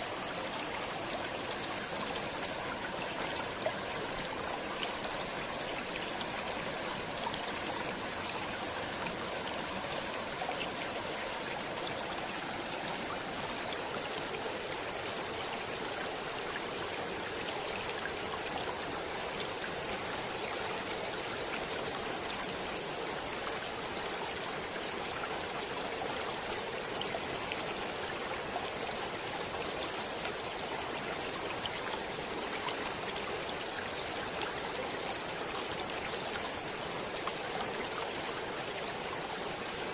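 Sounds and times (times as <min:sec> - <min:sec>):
stream water running: 0:00.0 - 0:39.9
water splashes and trickles: 0:00.0 - 0:39.9.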